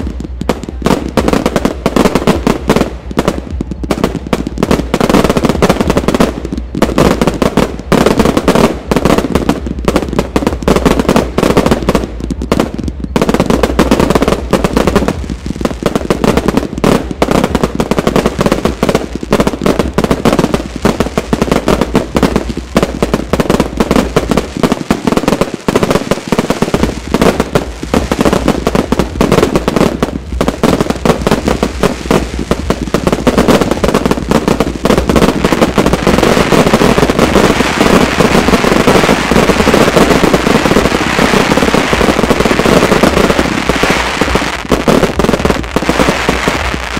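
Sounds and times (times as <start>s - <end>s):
fireworks launching and bursting: 0.0s - 46.9s.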